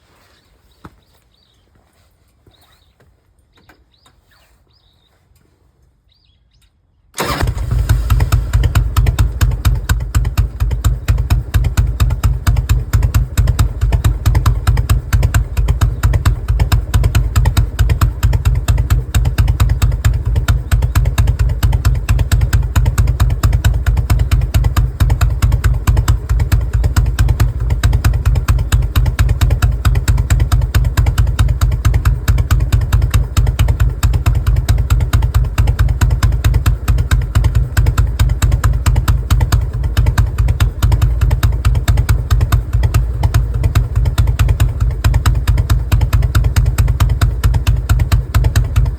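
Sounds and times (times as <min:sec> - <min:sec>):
motorcycle engine idling loudly: 0:07.2 - 0:48.9.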